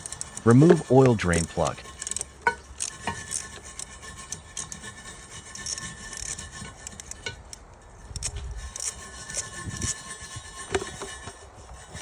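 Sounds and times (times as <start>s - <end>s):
scraping and rubbing on metal: 0.0s - 12.0s
tool clicking on metal: 0.0s - 12.0s.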